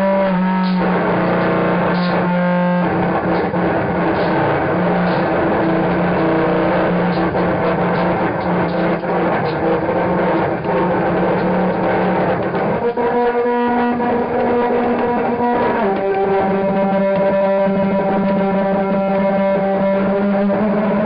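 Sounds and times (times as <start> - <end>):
rough noisy wash: 0.0 - 19.0
loud droning tone: 0.0 - 21.0.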